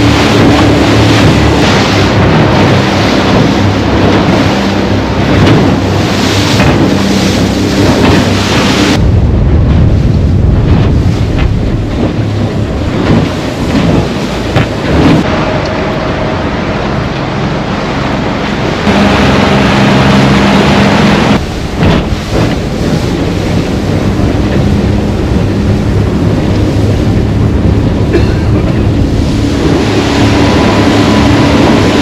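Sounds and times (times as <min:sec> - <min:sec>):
outboard motor running: 0:00.0 - 0:32.0
water splashing against hull: 0:00.0 - 0:32.0
wind buffeting microphone: 0:00.0 - 0:32.0.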